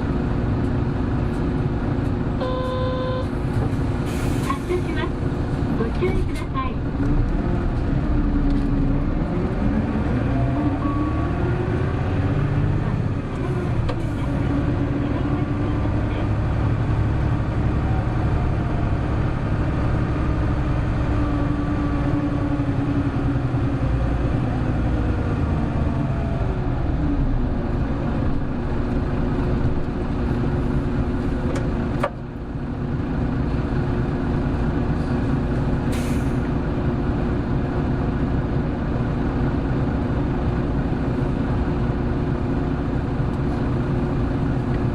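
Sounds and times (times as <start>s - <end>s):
bus drivetrain running: 0.0s - 44.9s.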